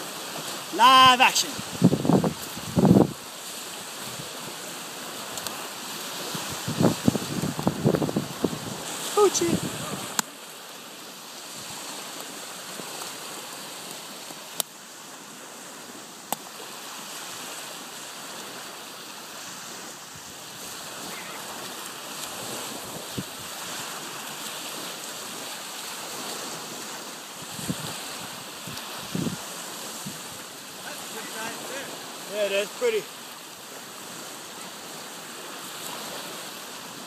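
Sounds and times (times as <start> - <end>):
small waves breaking on beach: 0.0 - 37.0.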